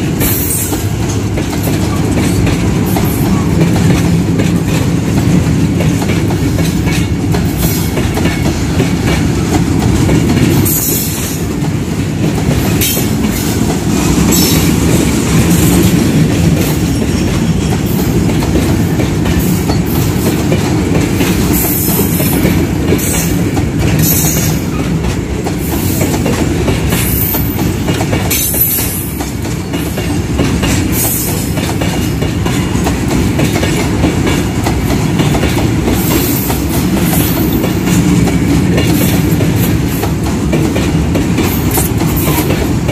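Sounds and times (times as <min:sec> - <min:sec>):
train wheels rumbling: 0:00.0 - 0:42.9
wheels clacking over rail joints: 0:00.0 - 0:42.9.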